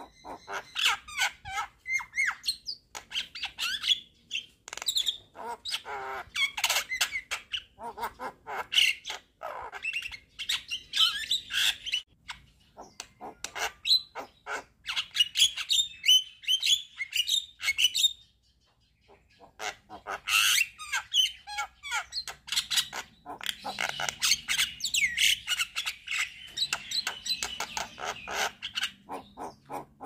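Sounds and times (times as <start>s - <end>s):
bird squawking chirping and whistling: 0.0s - 18.2s, 19.0s - 30.0s.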